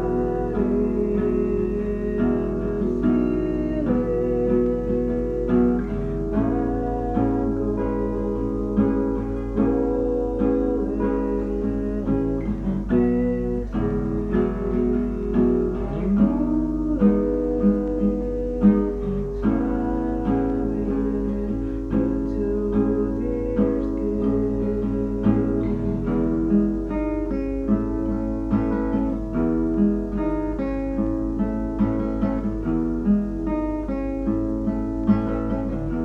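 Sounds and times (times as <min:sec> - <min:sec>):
guitar plucked and strummed: 0:00.0 - 0:36.0
steady low hum: 0:00.0 - 0:36.0.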